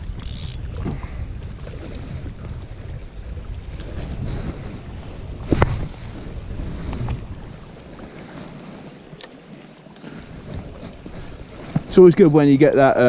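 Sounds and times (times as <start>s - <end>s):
sea washing around rocks: 0.0s - 13.0s
wind buffeting microphone: 0.0s - 13.0s.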